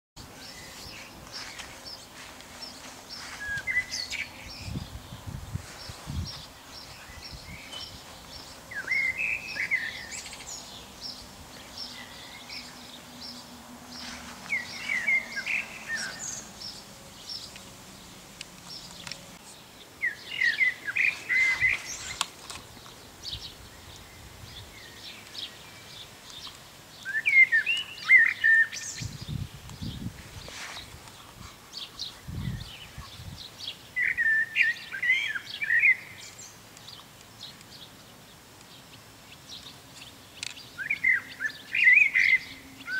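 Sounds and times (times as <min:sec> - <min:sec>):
songbird singing warbled phrases: 0:00.2 - 0:17.7, 0:18.7 - 0:30.1, 0:31.8 - 0:42.9.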